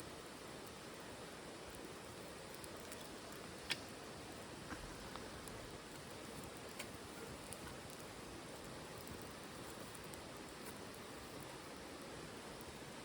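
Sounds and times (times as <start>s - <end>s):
fire crackles: 0.0s - 13.0s
wood stove fire hissing: 0.0s - 13.0s.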